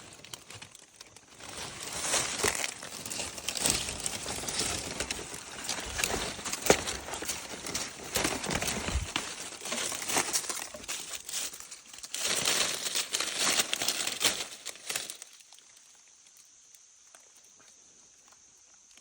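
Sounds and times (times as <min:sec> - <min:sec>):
dry crinkling and rustling: 0:00.0 - 0:16.4.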